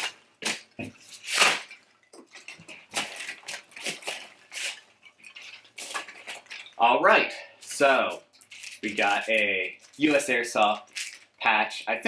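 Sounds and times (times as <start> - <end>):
packing peanuts rustling and crunching: 0.0 - 7.0, 7.6 - 11.6.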